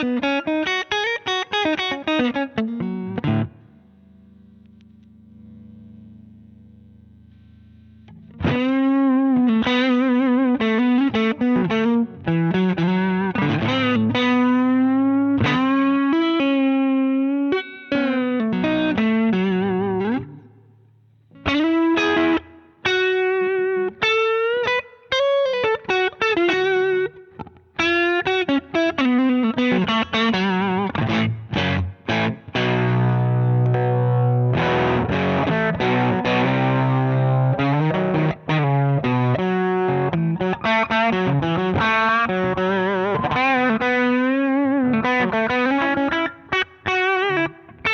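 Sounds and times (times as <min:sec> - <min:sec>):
overdriven electric guitar lead: 0:00.0 - 0:47.9.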